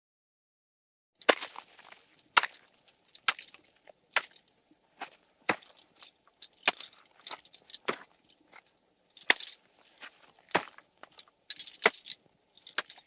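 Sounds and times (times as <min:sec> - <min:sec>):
crackling and crunching: 0:01.2 - 0:13.0.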